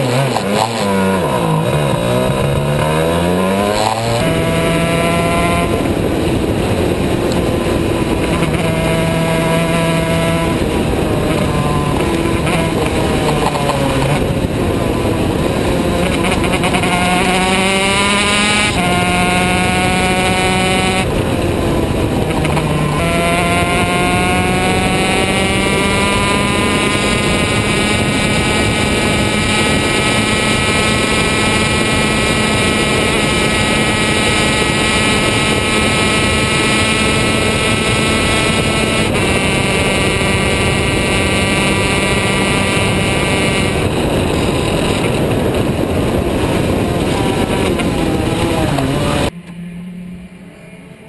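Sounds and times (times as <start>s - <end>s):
kart engine running hard: 0.0s - 51.0s.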